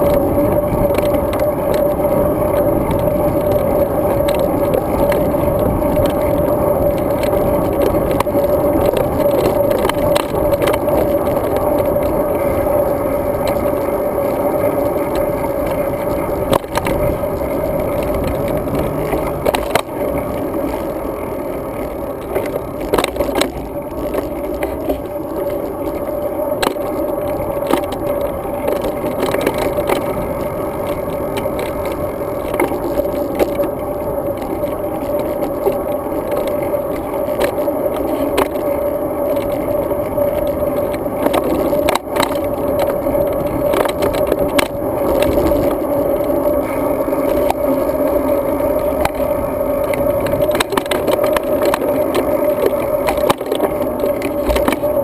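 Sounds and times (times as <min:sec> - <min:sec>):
bike clicks and rattles: 0:00.0 - 0:55.0
tyres and wind rumble: 0:00.0 - 0:55.0.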